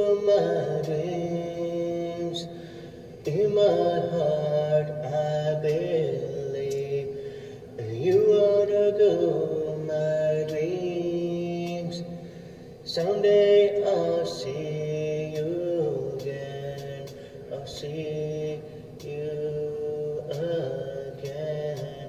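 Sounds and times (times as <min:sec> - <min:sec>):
man singing slow melody: 0:00.0 - 0:22.0.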